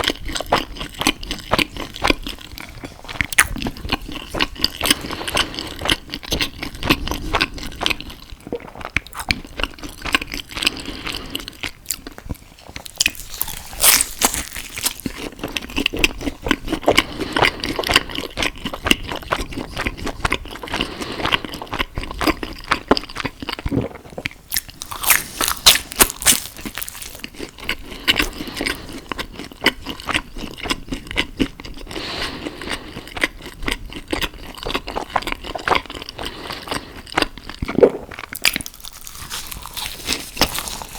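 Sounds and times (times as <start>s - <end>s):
biting and wet chewing: 0.0s - 40.9s.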